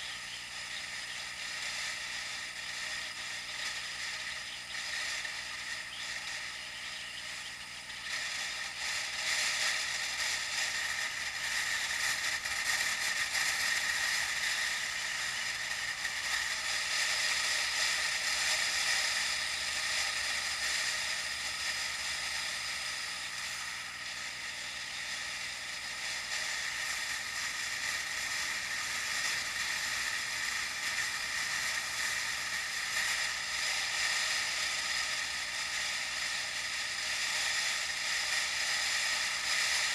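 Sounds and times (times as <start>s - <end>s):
bicycle mechanical rattling: 0.0s - 39.9s
bicycle tires rolling hiss: 0.0s - 39.9s.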